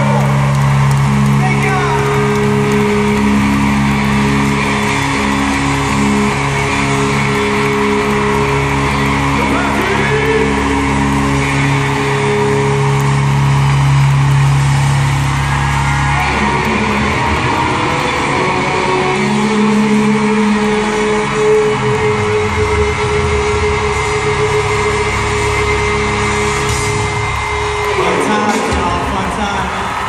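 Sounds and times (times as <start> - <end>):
crowd noise: 0.0 - 30.0
live concert music: 0.0 - 30.0.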